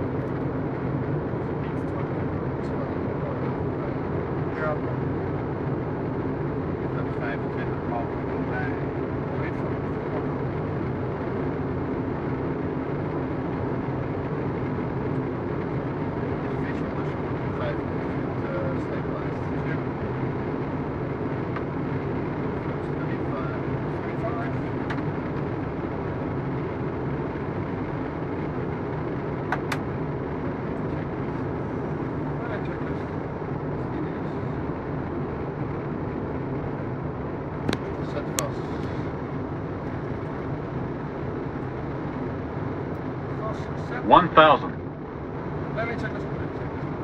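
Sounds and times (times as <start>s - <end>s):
jet engines humming: 0.0s - 47.0s.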